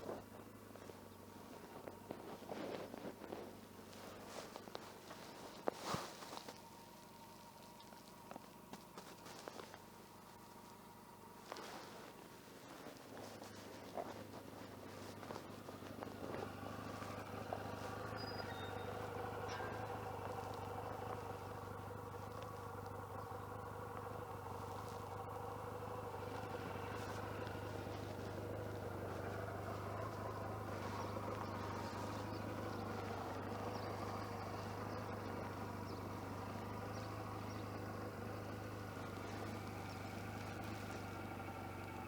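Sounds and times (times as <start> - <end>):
muffled motorcycle engine drone: 0.0 - 42.0.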